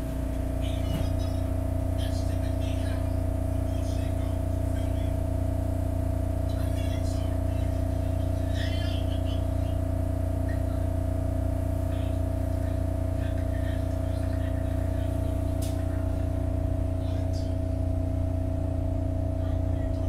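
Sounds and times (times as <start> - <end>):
subway car equipment hum: 0.0 - 20.0.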